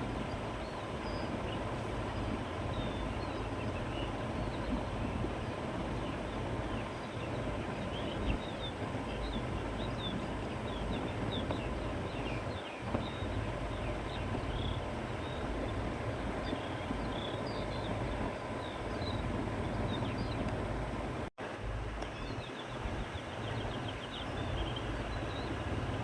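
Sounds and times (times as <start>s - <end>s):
small birds chirping: 0.0s - 20.7s, 22.0s - 25.8s
wind blowing through grass: 0.0s - 26.0s.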